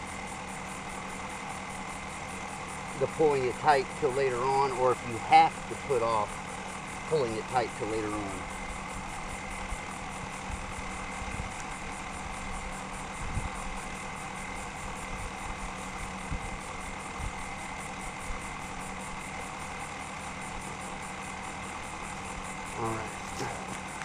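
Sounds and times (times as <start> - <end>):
constant high tone: 0.0 - 24.0
steady background drone: 0.0 - 24.0.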